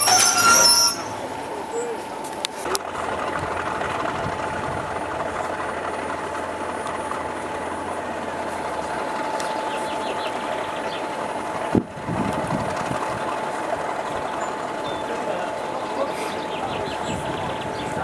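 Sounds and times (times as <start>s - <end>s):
constant whine: 0.0s - 18.0s
diesel engine drone: 0.0s - 18.0s.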